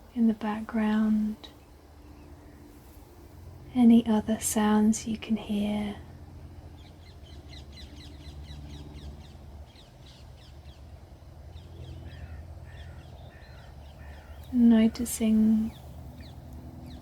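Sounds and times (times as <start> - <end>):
low background rumble: 0.0 - 17.0
wild birds chirping: 0.4 - 3.7, 6.1 - 17.0.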